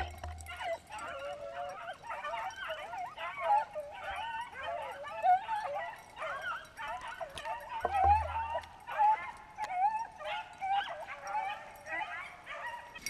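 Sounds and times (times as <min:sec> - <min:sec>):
dogs baying: 0:00.0 - 0:13.0.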